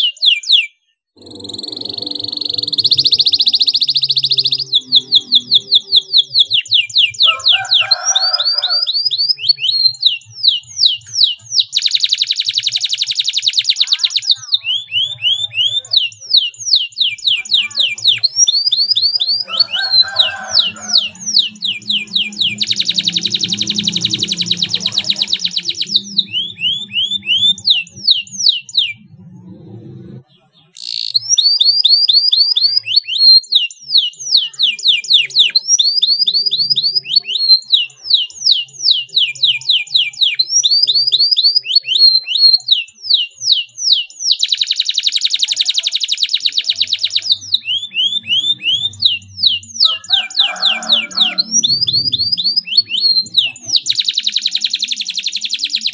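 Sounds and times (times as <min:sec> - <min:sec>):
canary singing: 0:00.0 - 0:55.9.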